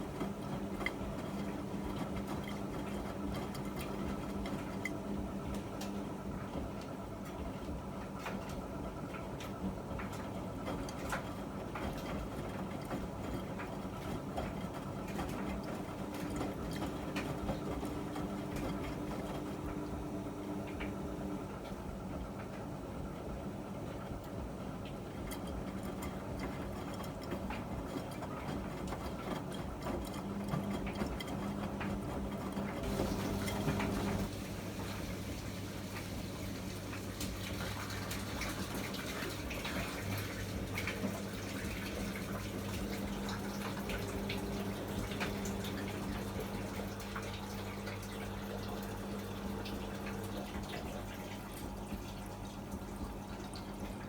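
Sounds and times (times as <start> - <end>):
laundry patter and clicks in drum: 0.0 - 54.0
washing machine motor humming: 0.0 - 54.0.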